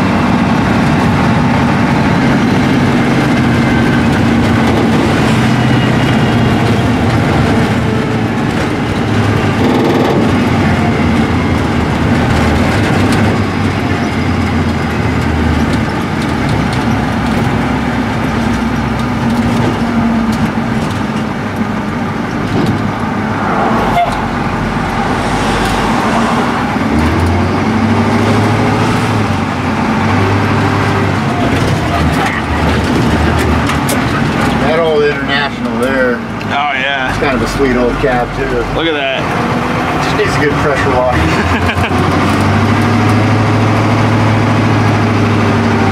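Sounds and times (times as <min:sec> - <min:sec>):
truck engine rumble: 0:00.0 - 0:45.9.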